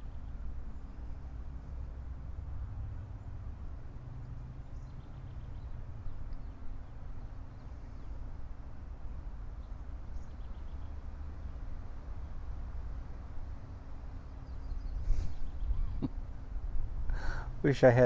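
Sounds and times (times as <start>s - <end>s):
low outdoor hum: 0.0s - 18.0s.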